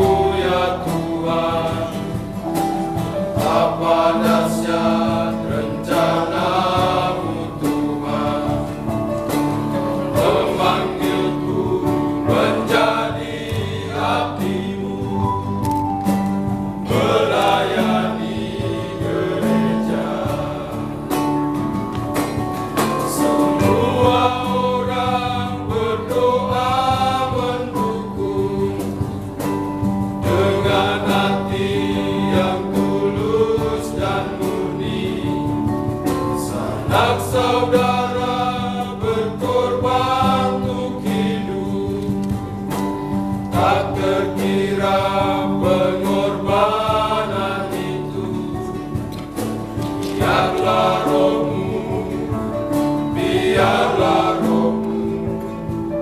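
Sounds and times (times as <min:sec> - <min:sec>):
men's choir singing a hymn: 0:00.0 - 0:56.0.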